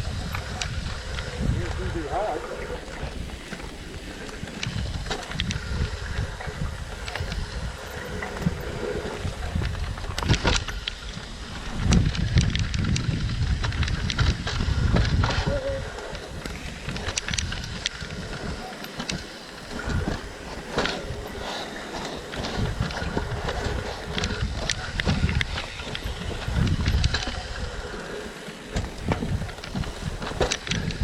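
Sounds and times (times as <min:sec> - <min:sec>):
bike knocks and rattles: 0:00.0 - 0:31.0
bike tyre rumble: 0:00.0 - 0:31.0
wind buffeting microphone: 0:00.0 - 0:31.0.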